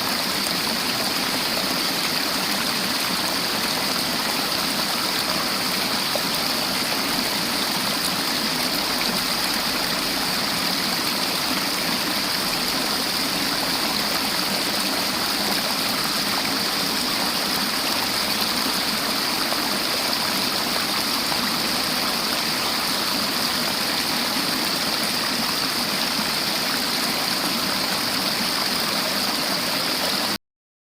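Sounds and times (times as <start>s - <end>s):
river water flowing: 0.0s - 30.4s.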